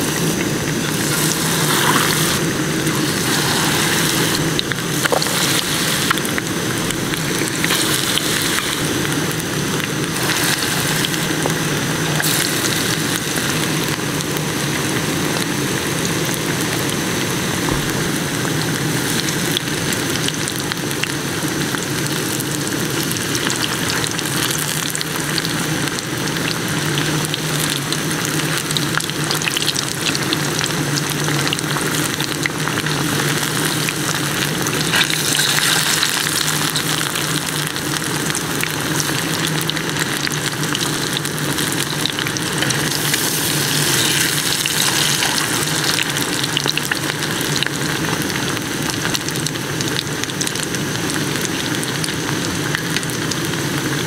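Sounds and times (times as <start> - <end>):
fritters sizzling in hot oil: 0.0 - 54.0.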